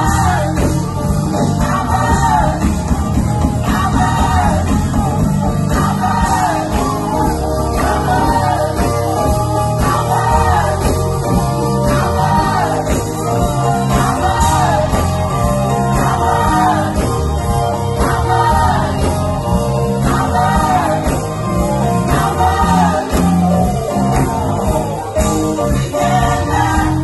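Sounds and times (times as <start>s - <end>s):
band accompaniment: 0.0s - 27.0s
gospel group singing: 0.0s - 27.0s
steady bass line: 0.0s - 27.0s.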